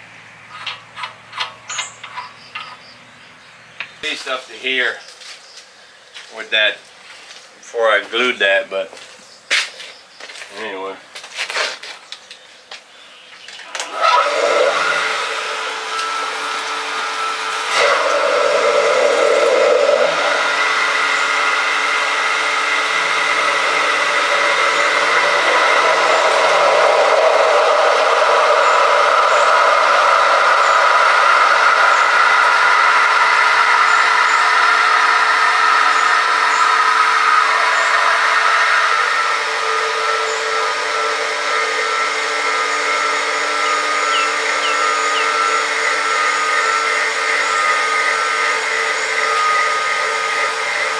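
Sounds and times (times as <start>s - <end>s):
electric well pump running: 0.0s - 11.9s, 13.5s - 50.9s.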